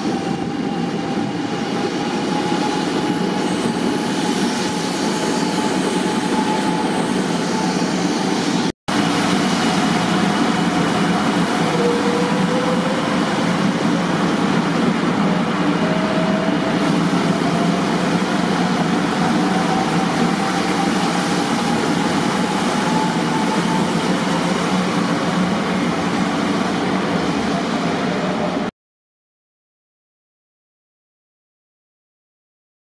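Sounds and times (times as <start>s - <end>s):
electric train rolling: 0.0s - 28.7s
train whine rising in pitch: 0.0s - 28.7s.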